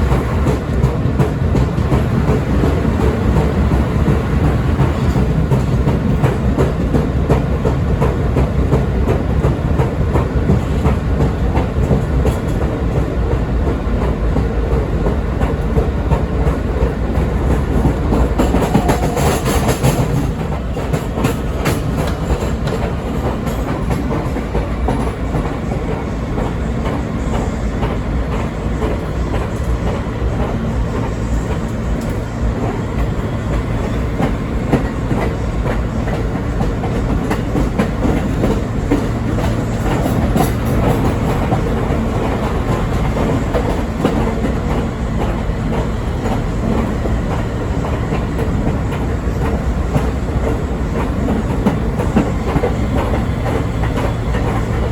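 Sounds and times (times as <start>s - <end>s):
subway car rumble: 0.0s - 54.9s.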